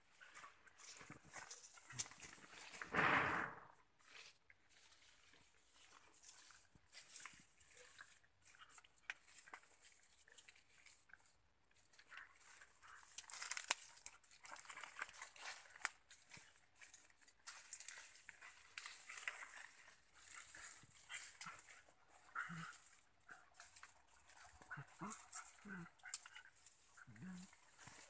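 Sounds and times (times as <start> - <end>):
leaves and twigs rustling: 0.0 - 28.0.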